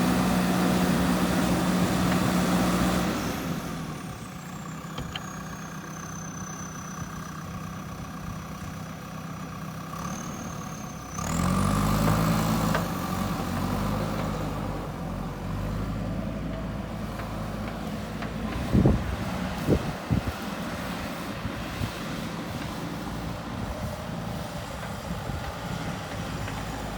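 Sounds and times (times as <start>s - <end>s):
diesel engine revving: 0.0s - 8.3s, 9.5s - 26.9s.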